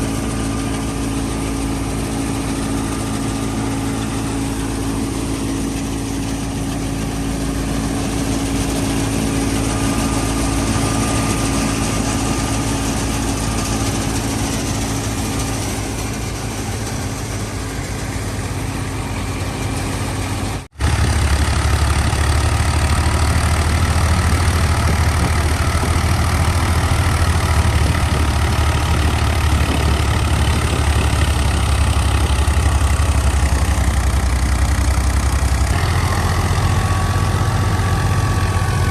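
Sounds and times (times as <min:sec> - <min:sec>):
diesel tractor engine running: 0:00.0 - 0:38.9
thresher machinery noise: 0:00.0 - 0:38.9.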